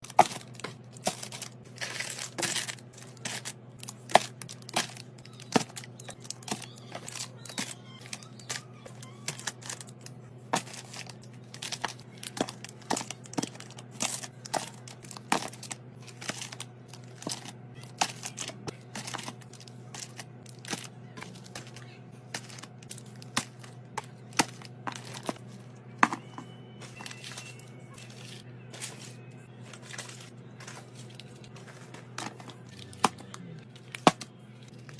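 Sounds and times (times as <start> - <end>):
plastic packaging crinkling: 0.0 - 33.1.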